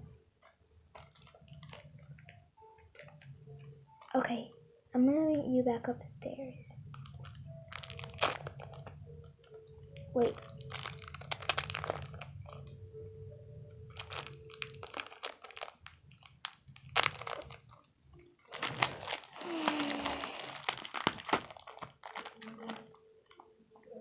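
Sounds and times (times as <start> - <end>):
plastic candy wrapper crinkling: 0.4 - 4.5, 6.8 - 13.0, 13.6 - 23.6.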